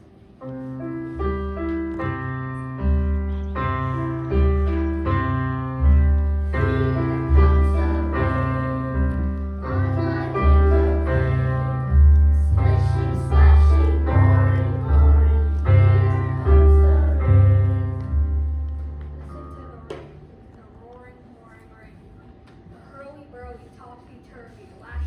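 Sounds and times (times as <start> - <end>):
piano music: 0.0 - 20.5.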